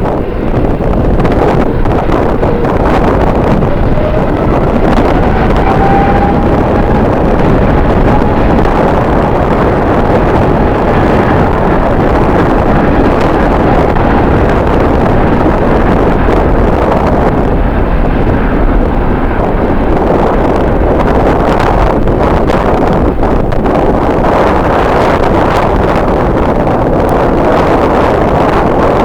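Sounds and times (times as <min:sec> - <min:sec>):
gusting wind buffeting microphone: 0:00.0 - 0:29.0.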